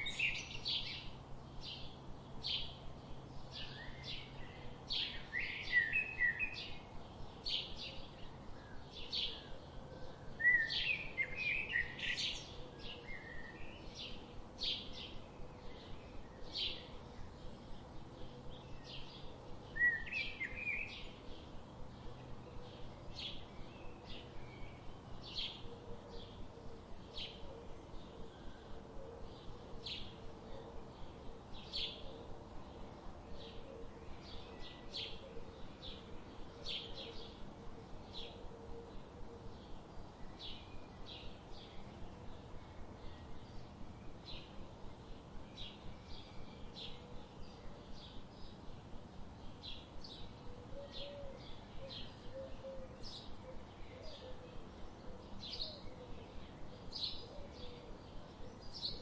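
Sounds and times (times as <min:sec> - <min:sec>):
low background hiss: 0:00.0 - 0:59.0.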